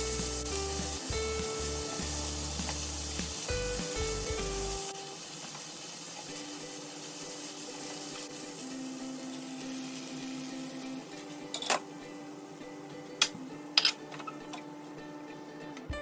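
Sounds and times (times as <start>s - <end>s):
food sizzling in a frying pan: 0.0s - 15.2s
quiet background music: 0.0s - 16.0s.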